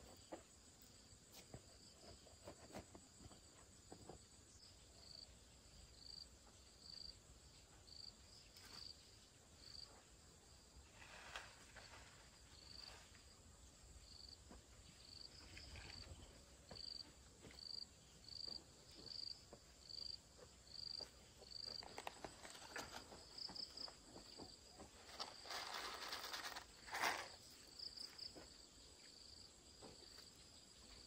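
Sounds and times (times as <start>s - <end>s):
insect chirping: 0.0s - 31.0s.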